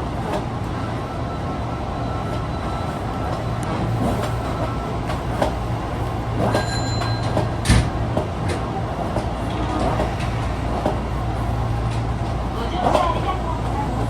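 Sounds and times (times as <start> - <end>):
subway car running hum: 0.0 - 14.0.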